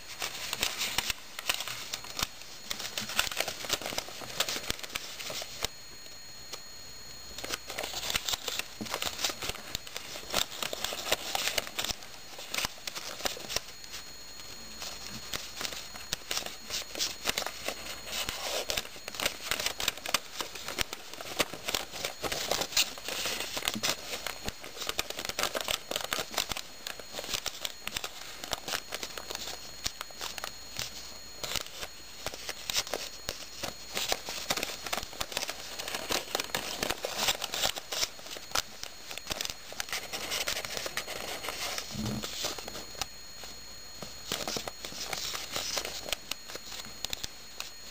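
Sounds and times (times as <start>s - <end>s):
paper rustling and crinkling: 0.0s - 5.8s, 7.3s - 47.9s
faint high whine: 0.0s - 47.9s.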